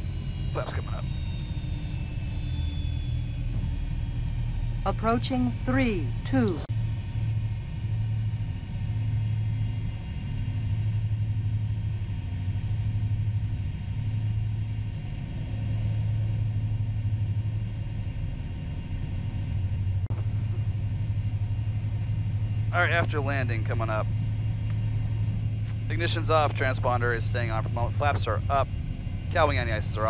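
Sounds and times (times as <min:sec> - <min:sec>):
cockpit low rumble: 0:00.0 - 0:30.0.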